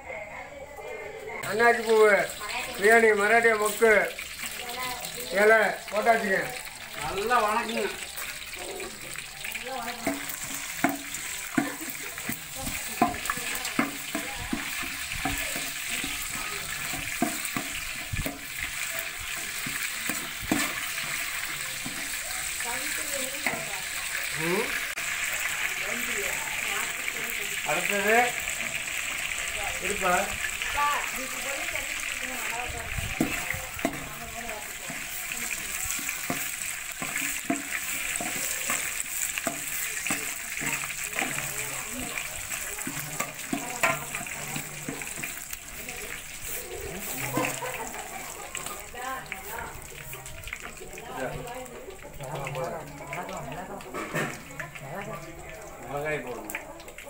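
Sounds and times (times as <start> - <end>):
wood fire hissing: 1.4 - 52.3
water splashing in metal pot: 1.4 - 57.0.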